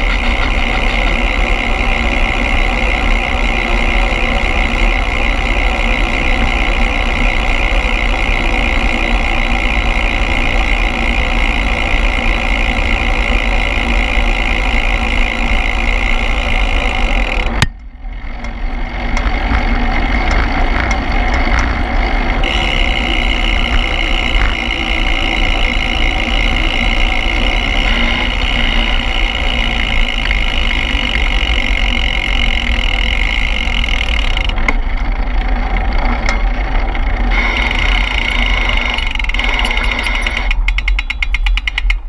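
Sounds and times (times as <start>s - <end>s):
rapid ticking: 0.0s - 17.7s, 18.4s - 36.0s, 37.2s - 42.0s
high whining tones: 0.0s - 34.8s, 36.3s - 41.7s
vehicle running rumble: 0.0s - 42.0s.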